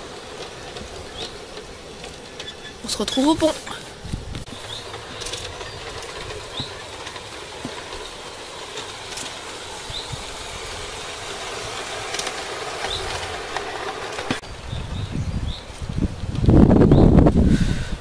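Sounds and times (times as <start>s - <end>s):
track clicks: 0.0s - 14.4s
model train motor humming: 0.0s - 14.9s
wheels rolling on track: 0.0s - 18.0s.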